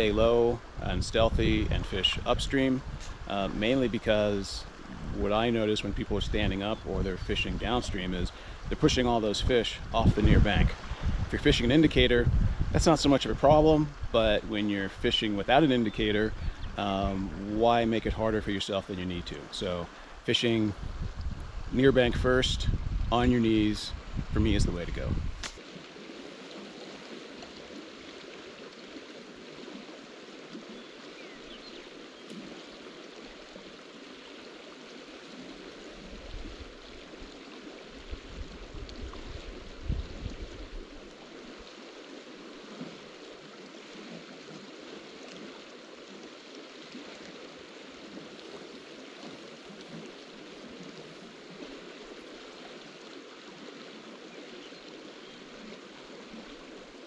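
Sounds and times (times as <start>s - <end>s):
creek water flowing: 0.0s - 57.0s.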